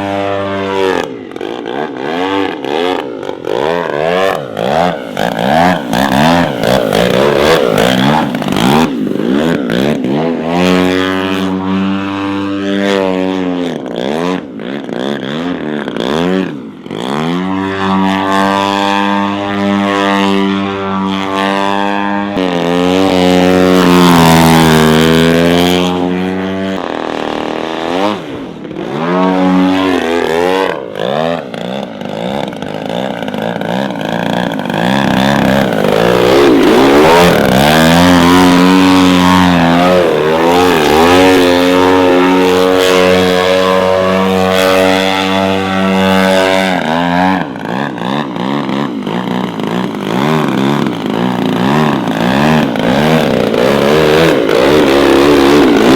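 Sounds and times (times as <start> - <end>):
model aircraft engine revving: 0.0 - 55.9.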